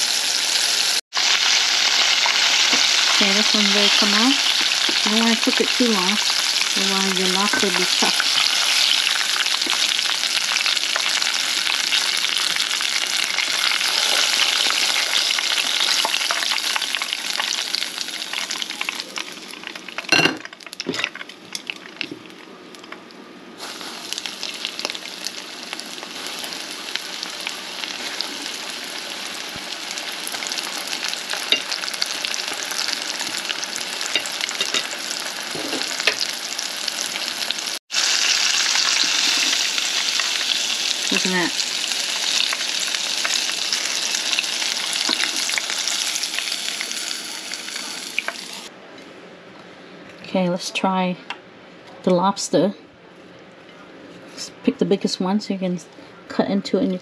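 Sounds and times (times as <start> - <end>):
oil sizzling in a pan: 0.0 - 20.9, 23.6 - 48.7.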